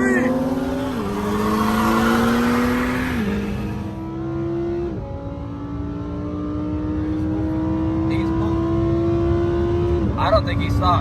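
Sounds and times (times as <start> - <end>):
car engine at full throttle: 0.0 - 11.0.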